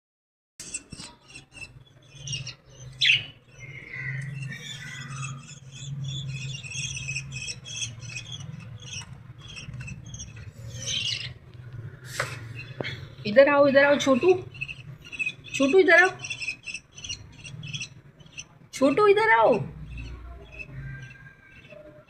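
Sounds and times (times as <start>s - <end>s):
young birds cheeping: 0.6s - 22.0s
steady low hum: 1.1s - 22.0s.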